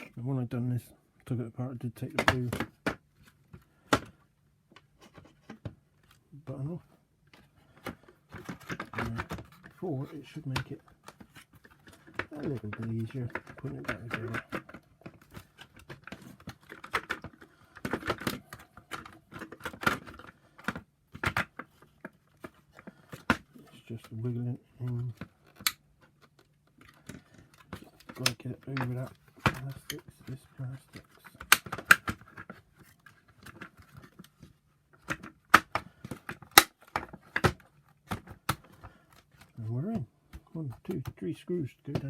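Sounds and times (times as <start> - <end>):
plastic parts clicking and knocking: 1.8 - 42.0.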